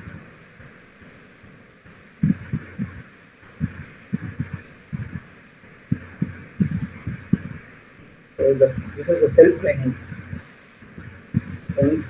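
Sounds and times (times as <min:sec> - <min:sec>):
faint steady hiss: 0:00.0 - 0:12.0
muffled low thumps: 0:01.9 - 0:12.0.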